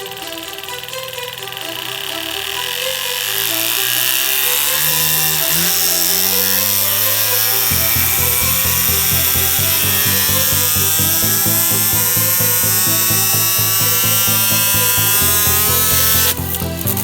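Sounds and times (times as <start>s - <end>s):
background music: 0.0s - 17.0s
motor whine rising in pitch: 0.0s - 17.0s
steady pulsing beat: 0.0s - 17.0s.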